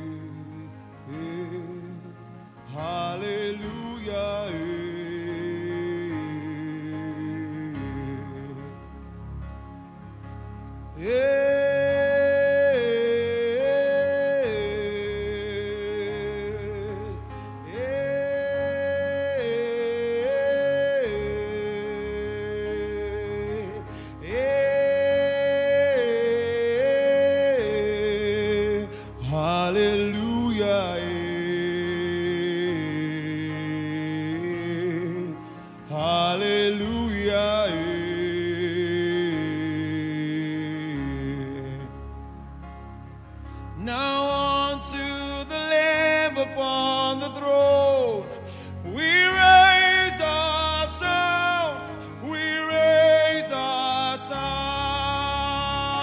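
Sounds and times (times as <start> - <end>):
person singing gospel song: 0.0 - 10.2, 10.9 - 42.4, 43.8 - 56.0
soft instrumental backing: 0.0 - 56.0.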